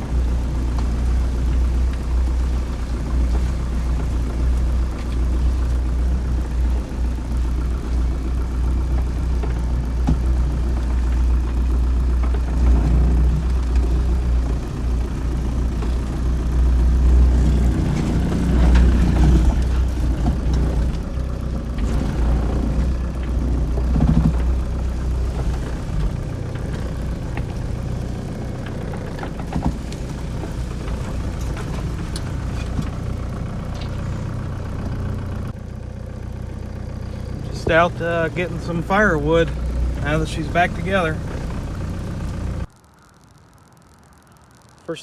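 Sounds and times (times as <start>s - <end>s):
pickup truck engine rumbling: 0.0s - 45.0s.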